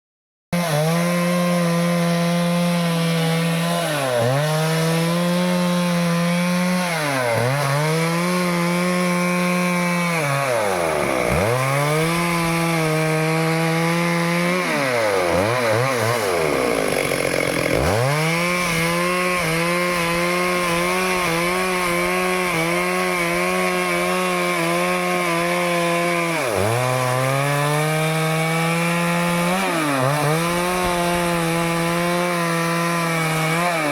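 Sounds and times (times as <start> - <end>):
chainsaw cutting wood: 0.5 - 33.9.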